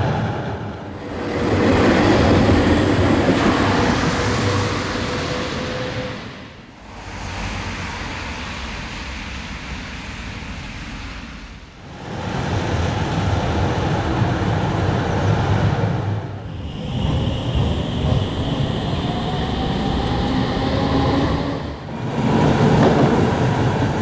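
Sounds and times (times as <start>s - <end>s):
tram and traffic running noise: 0.0s - 24.0s.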